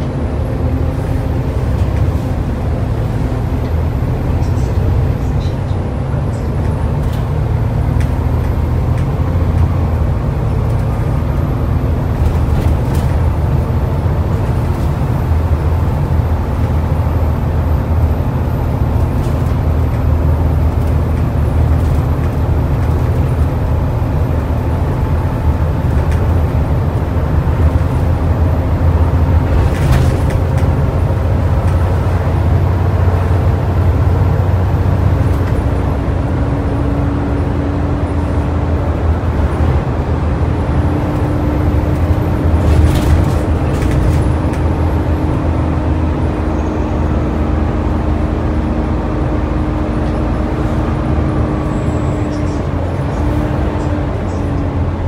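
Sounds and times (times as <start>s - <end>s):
bus engine running: 0.0s - 55.0s
tyre and road noise: 0.0s - 55.0s.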